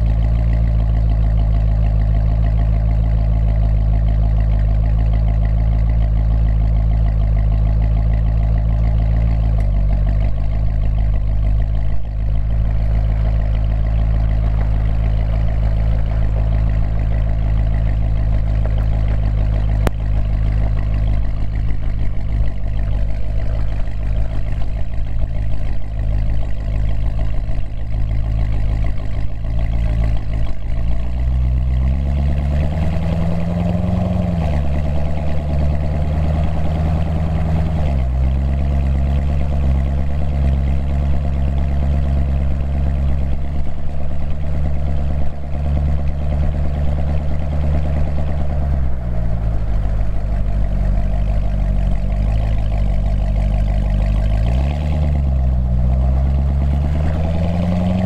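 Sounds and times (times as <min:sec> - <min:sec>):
car engine revving while driving: 0:00.0 - 0:58.0.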